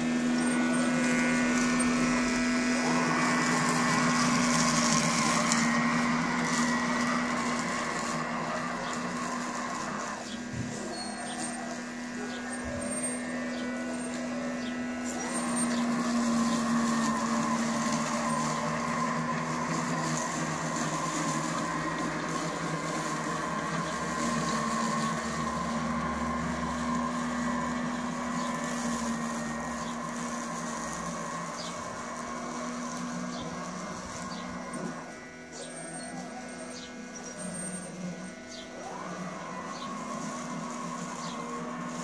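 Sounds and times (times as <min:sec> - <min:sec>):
robotic lawnmower whirring: 0:00.0 - 0:42.0.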